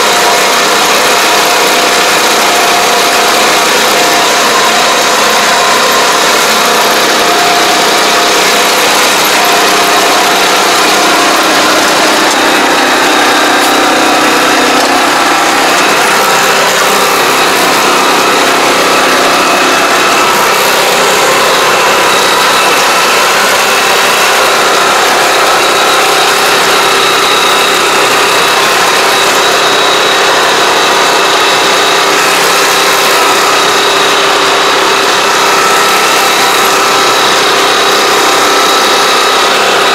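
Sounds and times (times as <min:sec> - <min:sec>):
sprayer engine running: 0:00.0 - 0:39.9.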